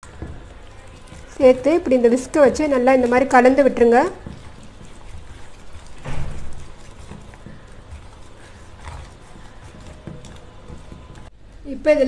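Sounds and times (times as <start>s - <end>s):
whisk beating batter in metal bowl: 0.0s - 11.3s.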